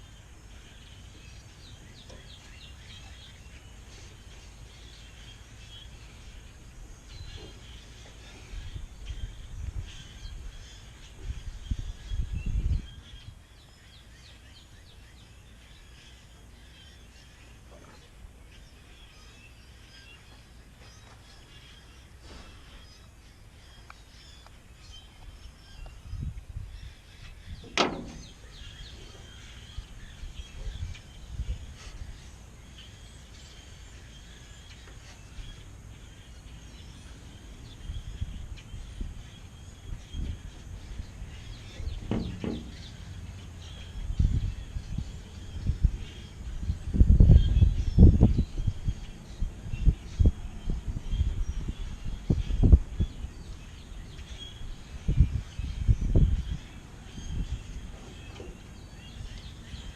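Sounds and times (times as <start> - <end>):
birds chirping: 0.0 - 59.9
low outdoor rumble: 0.0 - 59.9.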